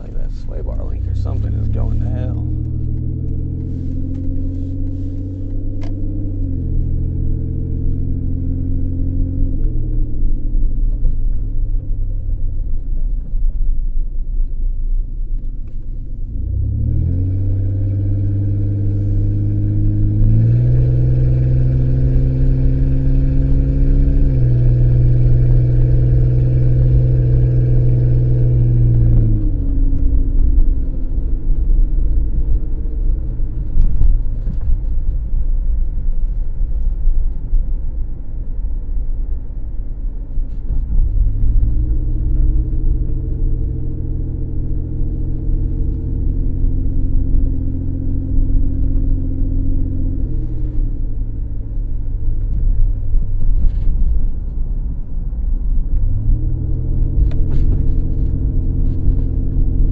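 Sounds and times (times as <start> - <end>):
car engine and road drone: 0.0 - 59.9.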